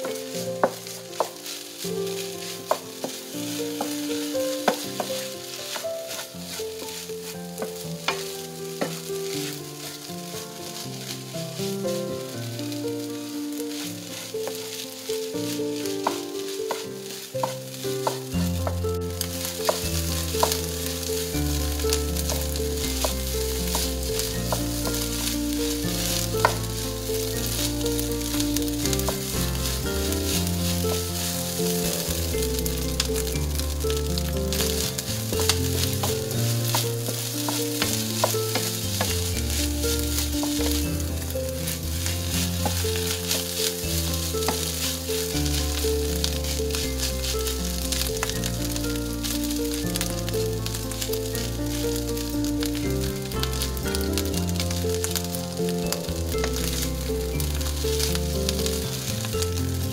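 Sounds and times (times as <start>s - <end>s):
rice sizzling in frying pan: 0.0s - 59.9s.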